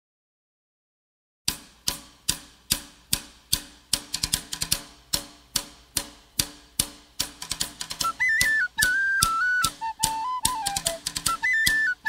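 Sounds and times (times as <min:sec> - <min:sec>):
song with steady drum beat: 0:01.5 - 0:12.0.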